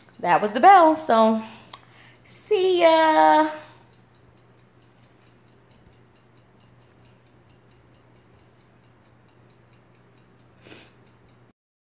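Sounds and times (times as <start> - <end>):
faint ticking: 0.0 - 11.5
low steady hum: 0.0 - 11.5.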